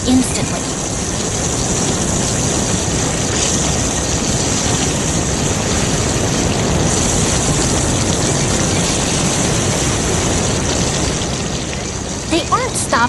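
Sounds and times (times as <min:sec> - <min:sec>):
water jets hissing from hoses: 0:00.0 - 0:13.0.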